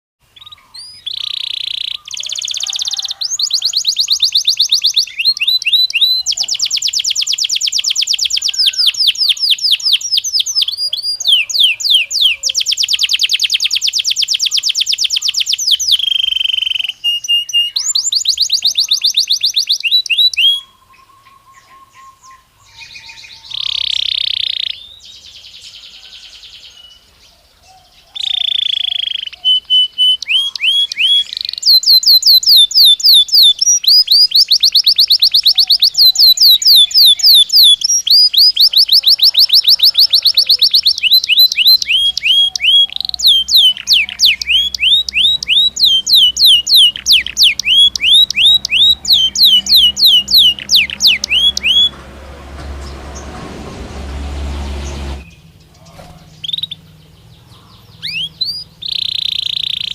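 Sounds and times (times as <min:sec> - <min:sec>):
canary singing trills: 0:00.2 - 0:53.4, 0:54.0 - 0:59.9.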